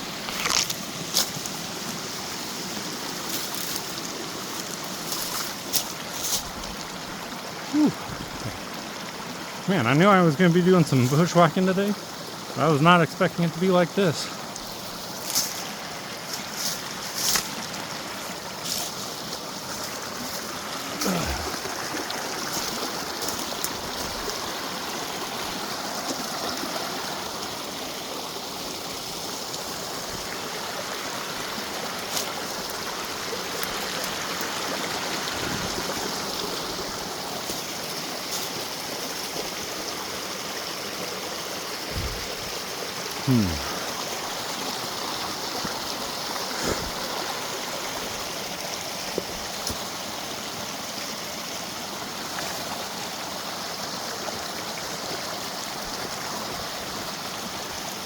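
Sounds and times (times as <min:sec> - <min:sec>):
creek water over rocks: 0:00.0 - 0:58.0.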